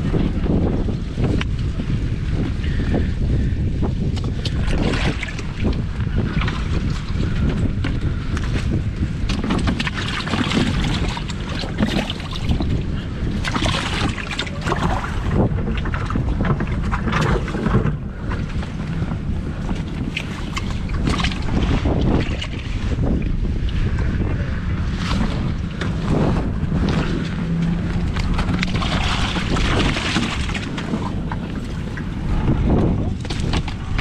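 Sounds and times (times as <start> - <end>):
wind buffeting microphone: 0.0 - 34.0
water splashes: 4.1 - 34.0.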